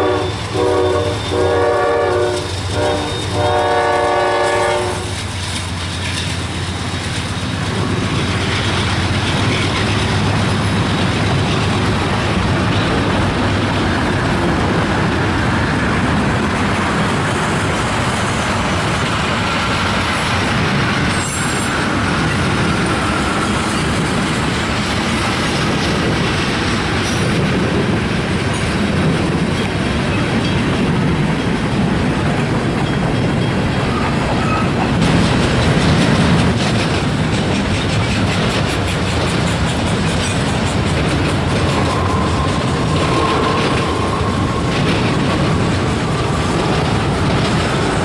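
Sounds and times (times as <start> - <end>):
freight train rumbling: 0.0 - 48.0
wheels clacking over rail joints: 0.0 - 48.0.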